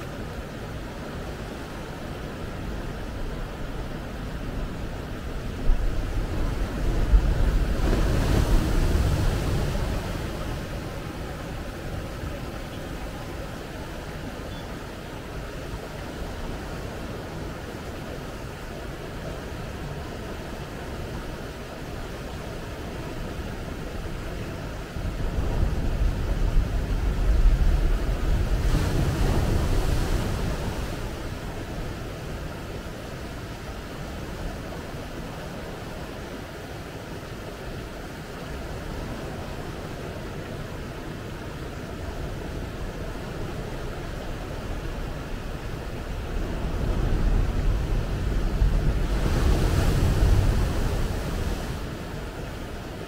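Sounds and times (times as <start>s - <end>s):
ocean waves breaking: 0.0s - 18.6s, 25.0s - 36.5s, 38.5s - 53.0s
surf washing up sand: 0.0s - 53.0s.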